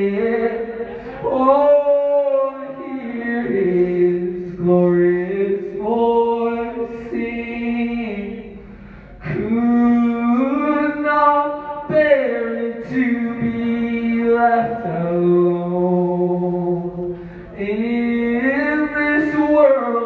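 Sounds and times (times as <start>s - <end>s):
man singing a cappella: 0.0s - 20.0s.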